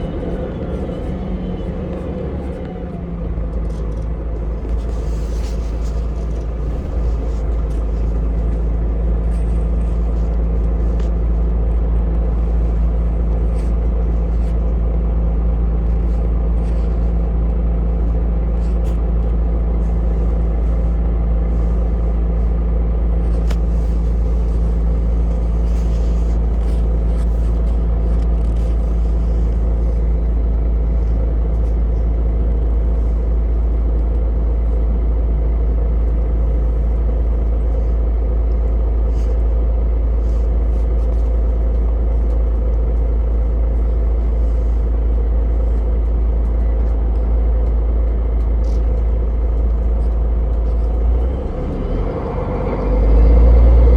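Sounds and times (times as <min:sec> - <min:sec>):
vehicle low rumble: 0:00.0 - 0:53.9.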